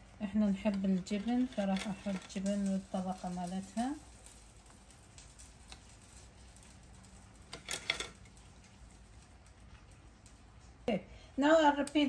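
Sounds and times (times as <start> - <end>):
clicks and rustles: 0.7 - 10.8.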